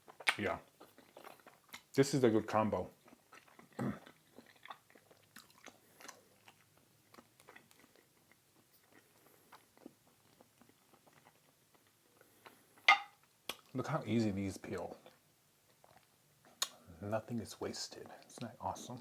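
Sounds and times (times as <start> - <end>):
person chewing food: 0.0 - 13.7, 14.7 - 16.9.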